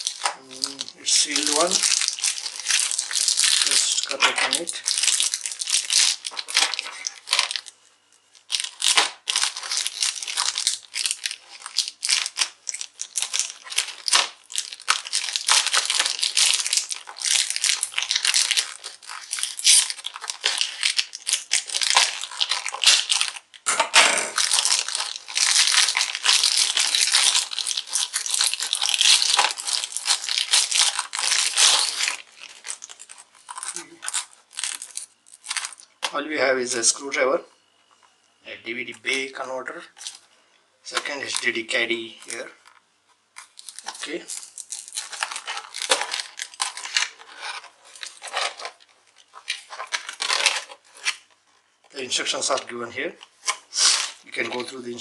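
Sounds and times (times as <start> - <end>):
plastic bag crinkling: 0.0 - 37.4, 38.8 - 55.0.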